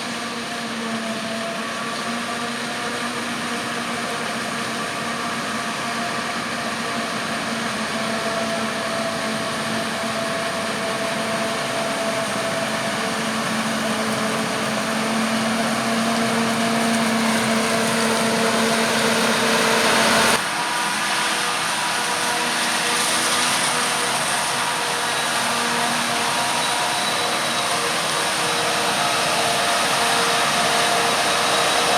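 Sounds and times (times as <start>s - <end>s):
diesel engine running under load: 0.0s - 31.9s.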